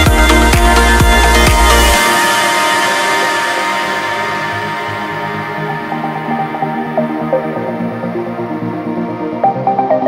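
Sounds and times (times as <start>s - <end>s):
low bass line: 0.0s - 10.0s
sustained synth tones: 0.0s - 10.0s.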